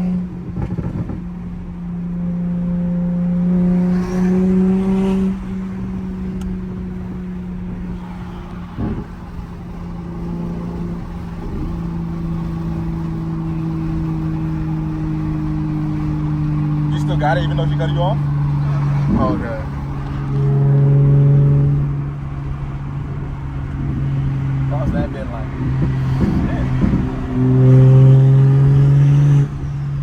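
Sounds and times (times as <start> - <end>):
car engine cruising from inside: 0.0 - 30.0.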